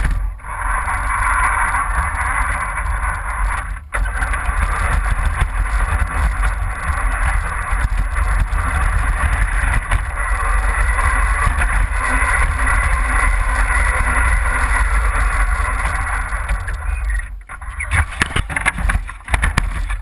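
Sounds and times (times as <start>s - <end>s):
toy car wheels rumbling: 0.0s - 20.0s.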